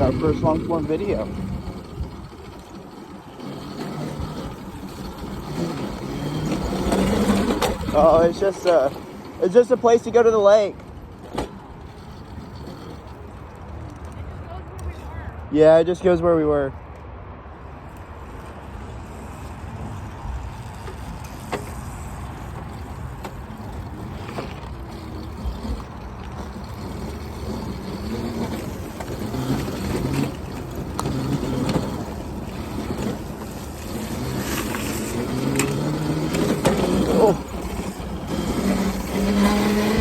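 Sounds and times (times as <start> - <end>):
electric motors whining: 0.0 - 13.7, 18.2 - 40.0
wind and tyre noise: 0.0 - 40.0.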